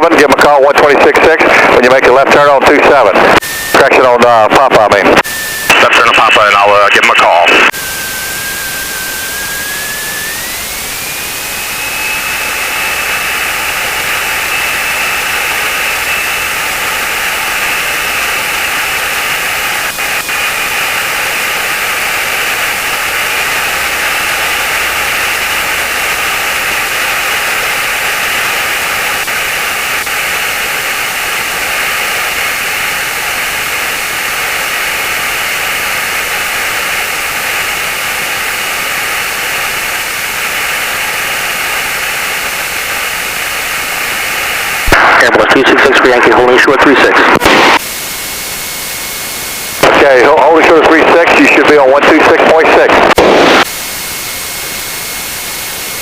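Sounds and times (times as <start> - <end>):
aircraft engine and propeller: 0.0 - 56.0
faint steady whine: 0.0 - 56.0.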